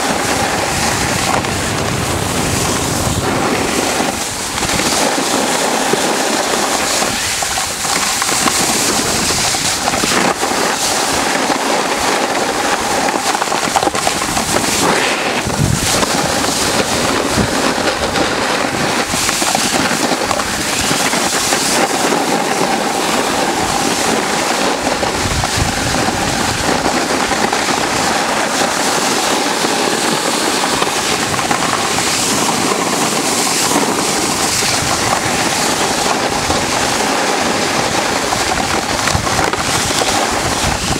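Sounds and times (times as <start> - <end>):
skis scraping on snow: 0.0 - 40.9
wind noise on microphone: 0.0 - 40.9.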